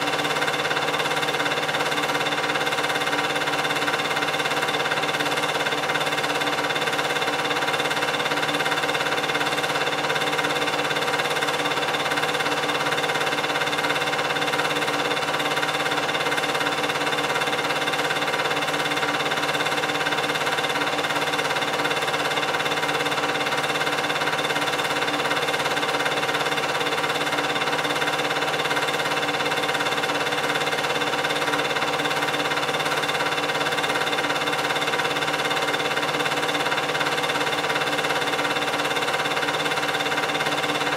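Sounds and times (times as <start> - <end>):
film projector humming: 0.0 - 40.9.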